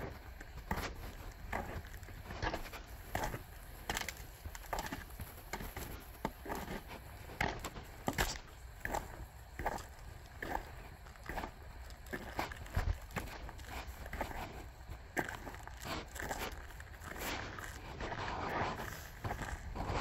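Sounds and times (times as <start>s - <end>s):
footsteps on icy ground: 0.0s - 20.0s.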